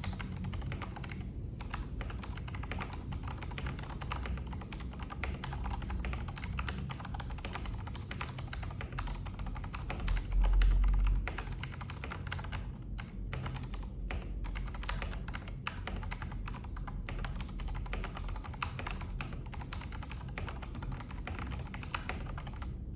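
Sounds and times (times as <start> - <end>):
fast typing on mechanical keyboard: 0.0 - 22.9.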